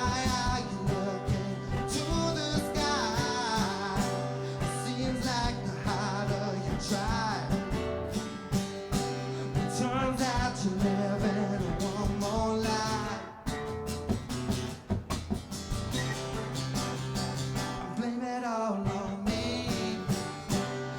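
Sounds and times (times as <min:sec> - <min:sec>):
acoustic guitar music: 0:00.0 - 0:20.9.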